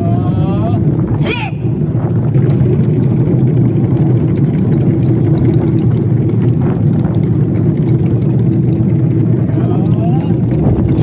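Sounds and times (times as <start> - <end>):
taiko drums rumbling: 0.8 - 11.0.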